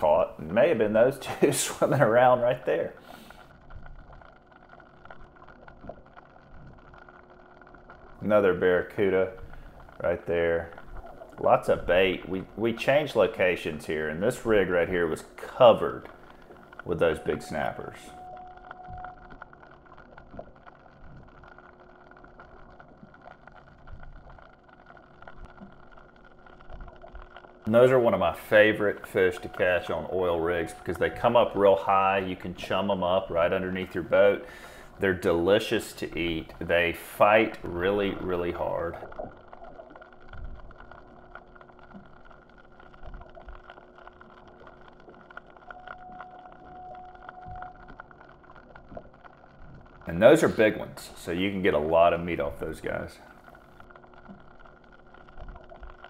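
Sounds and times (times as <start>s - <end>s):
faint clicks: 0.0s - 56.0s
low underwater rumble: 0.0s - 56.0s
steady hum: 0.0s - 56.0s.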